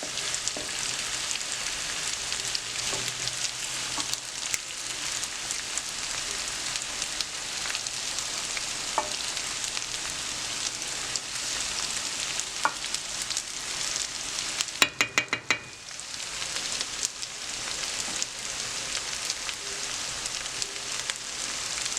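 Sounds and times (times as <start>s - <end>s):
potatoes sizzling in oil: 0.0s - 21.9s.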